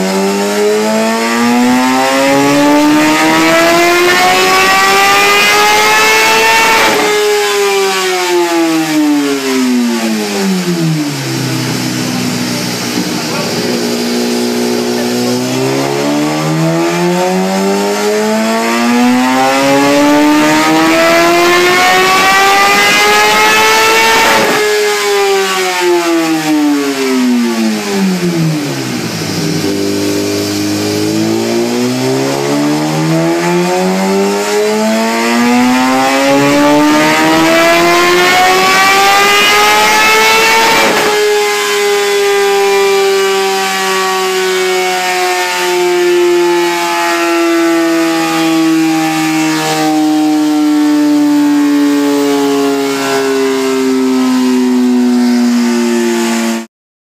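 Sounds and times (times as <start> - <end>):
motorcycle engine revving: 0.0 - 56.7.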